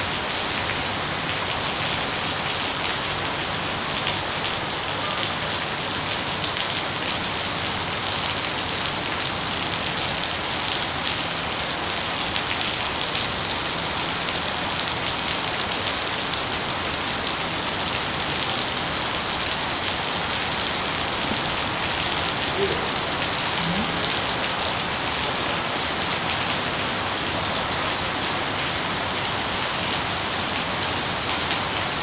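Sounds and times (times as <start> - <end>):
heavy rain on wet paving: 0.0 - 32.0.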